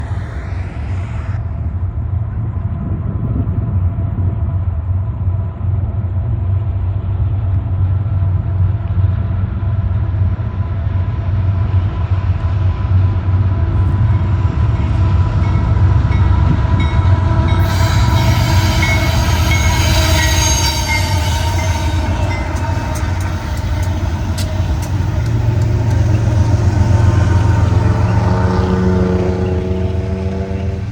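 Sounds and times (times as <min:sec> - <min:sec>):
steady whine: 0:00.0 - 0:08.0, 0:09.0 - 0:30.9
diesel locomotives rumbling: 0:00.0 - 0:30.9
rail and wheel noise: 0:00.0 - 0:30.9.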